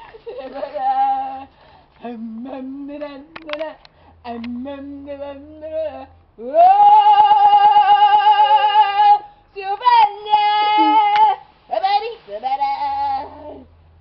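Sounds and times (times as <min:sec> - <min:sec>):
woman singing unaccompanied: 0:00.0 - 0:13.8.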